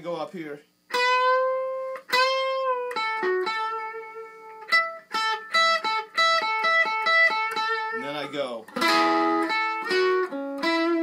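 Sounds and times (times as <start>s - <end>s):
electric guitar lead: 0.9s - 8.1s, 8.7s - 11.0s.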